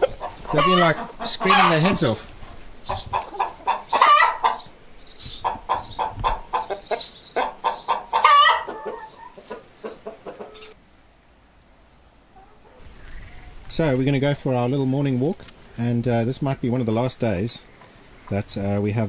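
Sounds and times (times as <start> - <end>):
chickens squawking and clucking: 0.0 - 10.8, 12.3 - 18.4.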